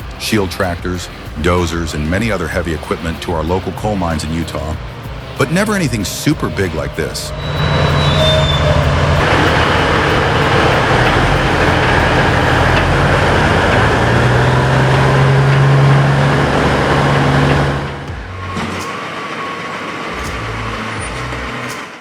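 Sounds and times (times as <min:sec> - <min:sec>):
heavy truck engine under load: 0:00.0 - 0:22.0
road and tyre noise: 0:00.0 - 0:22.0.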